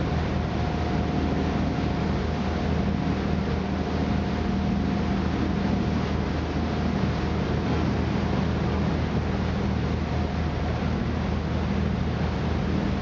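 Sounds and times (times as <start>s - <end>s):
boat engine drone: 0.0s - 13.0s
faint steady whine: 0.0s - 13.0s
wind: 0.0s - 13.0s.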